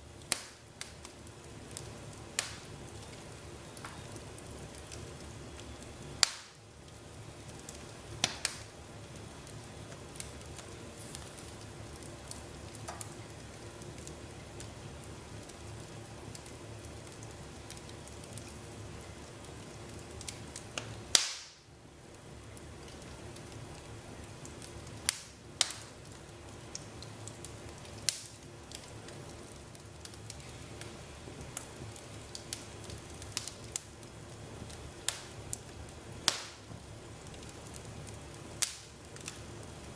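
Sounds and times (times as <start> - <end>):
fire hissing: 0.0 - 39.9
fire popping and crackling: 0.0 - 39.9.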